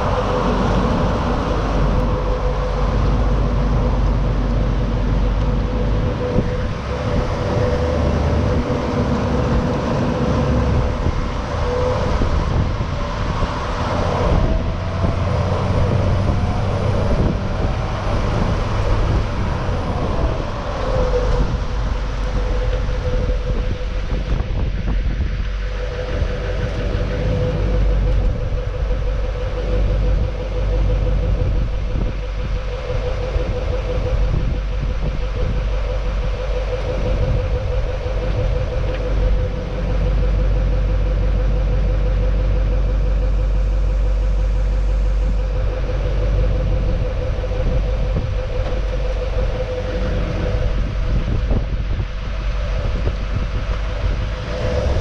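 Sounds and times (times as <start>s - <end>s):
diesel engine rumble: 0.0s - 55.0s.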